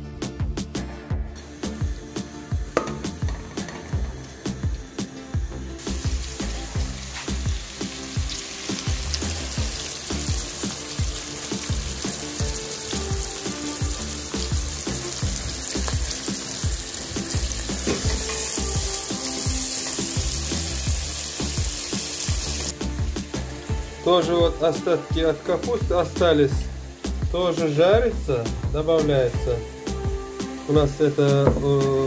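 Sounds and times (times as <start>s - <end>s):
background music: 0.0s - 32.0s
onions sizzling in oil: 1.4s - 32.0s.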